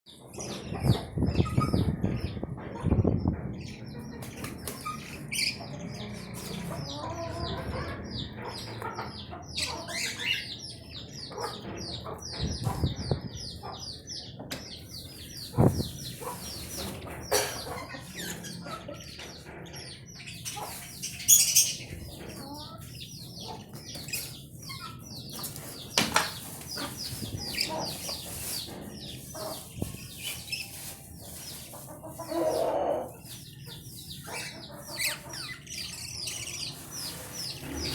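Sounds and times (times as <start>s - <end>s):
budgerigars chirping and warbling: 0.1s - 37.9s.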